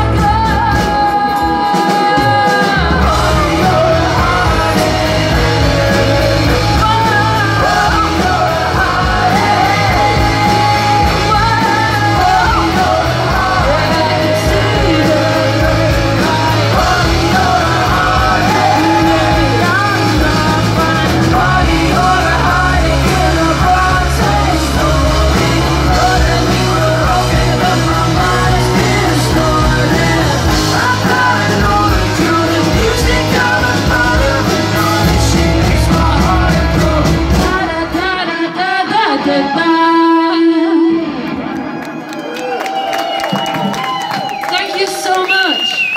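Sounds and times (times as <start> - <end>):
electric bass: 0.0 - 1.4, 2.2 - 38.2
drum kit: 0.0 - 39.2
person singing: 0.0 - 41.8
electric guitars: 0.0 - 45.9.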